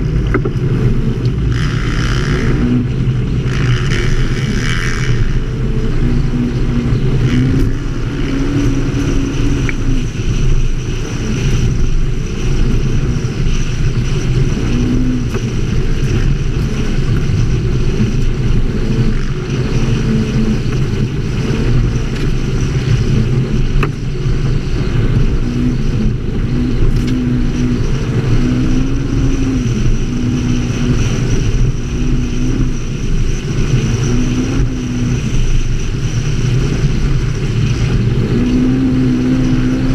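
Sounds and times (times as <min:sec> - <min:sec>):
atv engine running: 0:00.0 - 0:39.9
rush of noise: 0:00.0 - 0:39.9.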